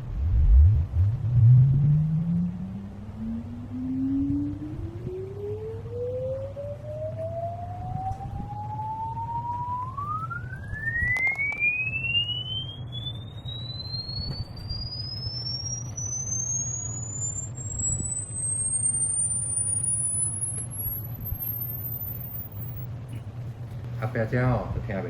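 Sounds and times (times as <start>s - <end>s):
test tone sweeping upward: 0.0s - 22.9s.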